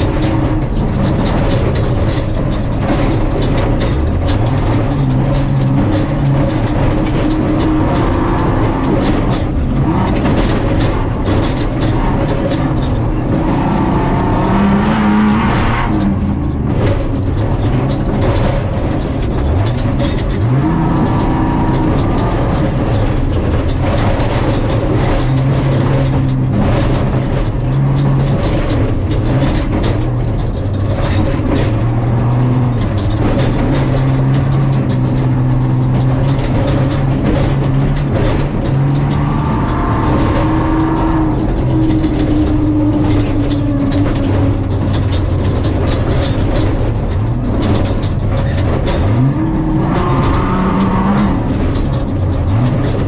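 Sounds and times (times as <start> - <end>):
rattles inside truck cab: 0.0 - 53.0
truck engine pulling hard: 0.0 - 53.0
tyre and road noise: 0.0 - 53.0.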